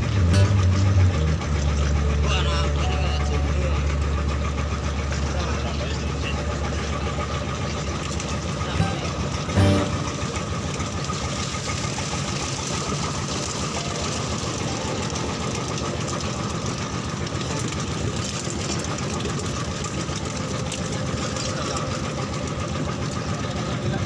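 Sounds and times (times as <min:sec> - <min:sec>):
boat engine idling: 0:00.0 - 0:24.0.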